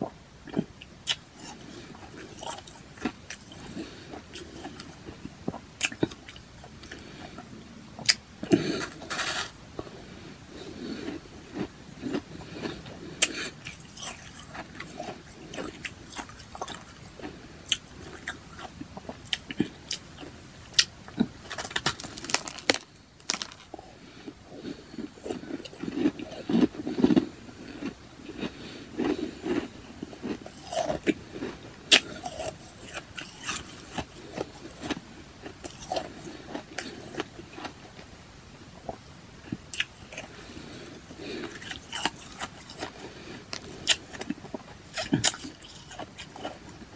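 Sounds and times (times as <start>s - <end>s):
person chewing ice: 0.4s - 38.0s, 38.8s - 46.9s.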